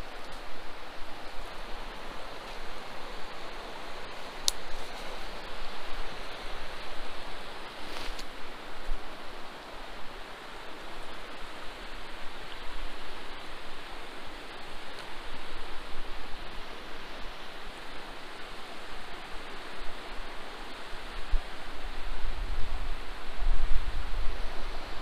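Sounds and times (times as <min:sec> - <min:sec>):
stream rushing: 0:00.0 - 0:25.0
wind rumble on microphone: 0:00.0 - 0:25.0.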